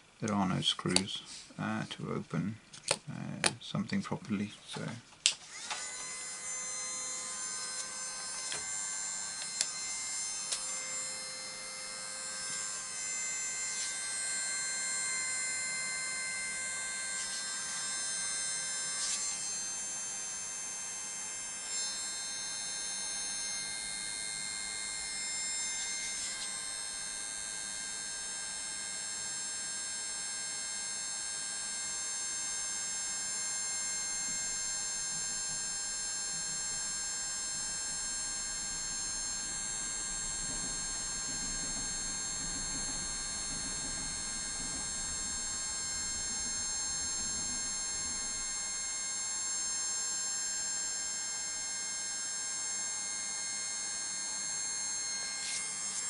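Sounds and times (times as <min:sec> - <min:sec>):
hot air blower whining: 0:05.4 - 0:29.4, 0:34.0 - 0:52.2, 0:52.9 - 0:56.0.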